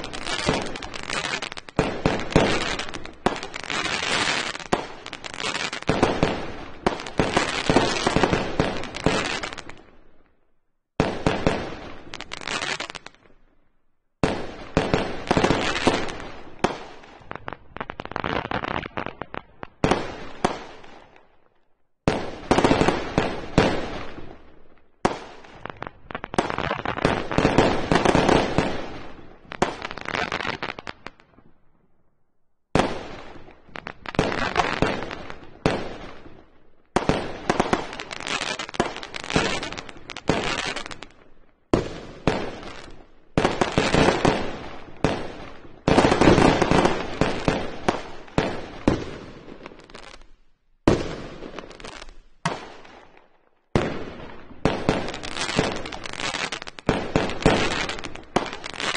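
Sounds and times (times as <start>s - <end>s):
fireworks bangs and crackle: 0.0s - 13.6s, 14.2s - 31.7s, 32.7s - 58.9s.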